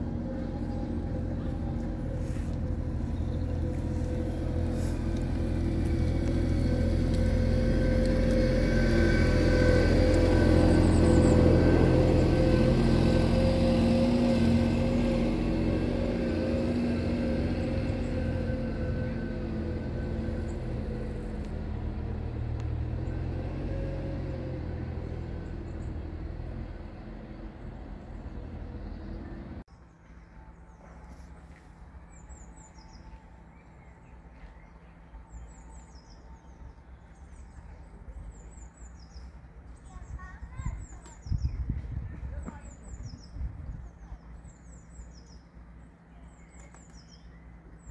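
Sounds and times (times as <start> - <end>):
motor engine rumbling: 0.0 - 47.9.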